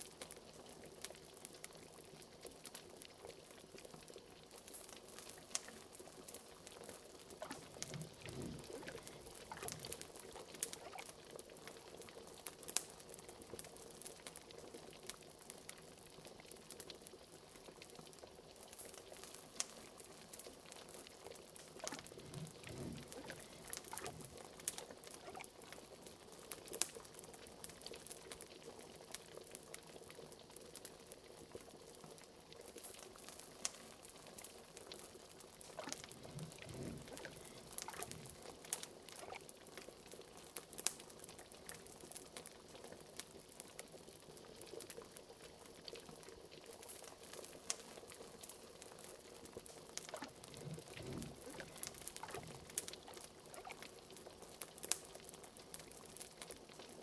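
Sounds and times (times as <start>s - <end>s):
liquid bubbling in a pot: 0.0s - 57.0s
wood fire crackling: 0.0s - 57.0s.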